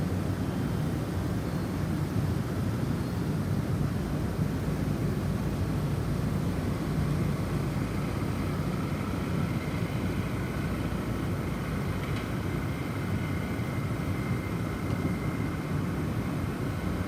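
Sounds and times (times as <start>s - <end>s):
snowstorm wind rumbling: 0.0s - 17.0s.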